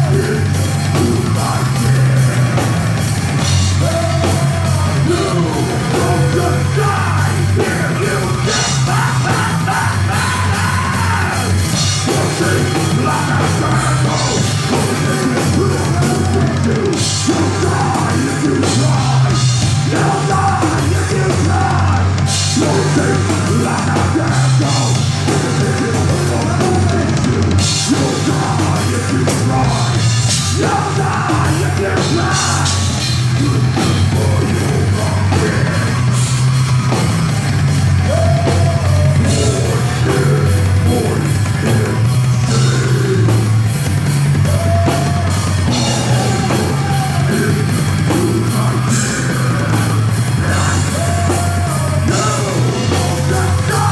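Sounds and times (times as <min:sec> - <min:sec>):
drum kit rock beat: 0:00.0 - 0:53.9
electric guitar: 0:00.0 - 0:53.9
singer yelling and singing: 0:00.0 - 0:53.9.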